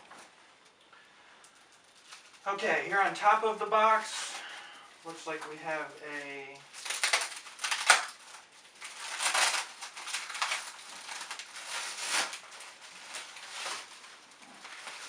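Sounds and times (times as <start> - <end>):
packaging rustling and crinkling: 1.4 - 15.0.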